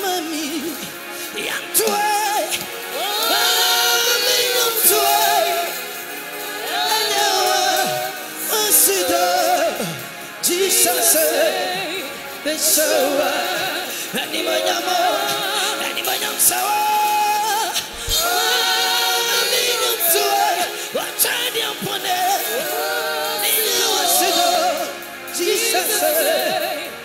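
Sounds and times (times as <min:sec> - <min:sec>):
man singing gospel song: 0:00.0 - 0:27.0.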